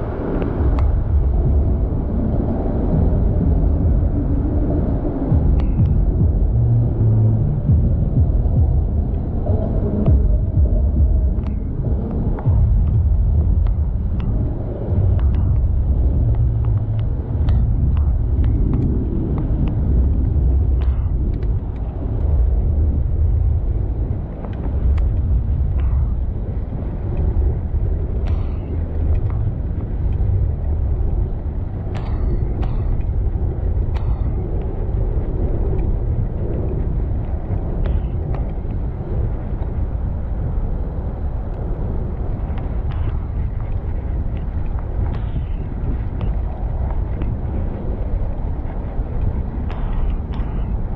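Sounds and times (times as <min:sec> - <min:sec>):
wind and road noise rumble: 0:00.0 - 0:50.9.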